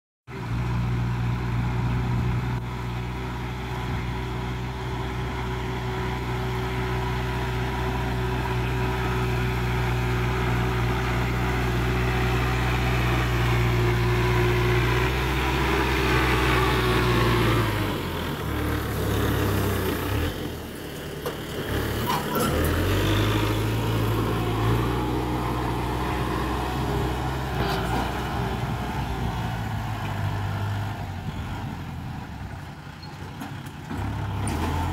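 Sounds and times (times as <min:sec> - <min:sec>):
tractor engine running: 0:00.3 - 0:34.9.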